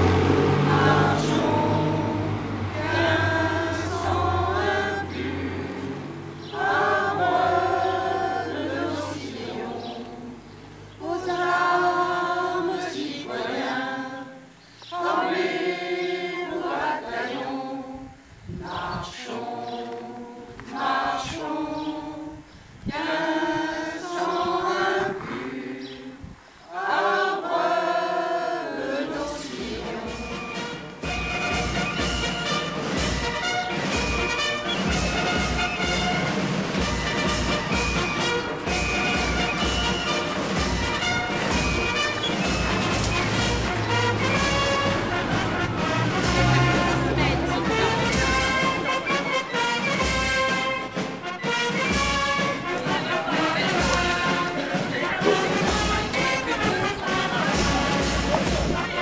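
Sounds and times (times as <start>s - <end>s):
group of people singing: 0.0s - 59.0s.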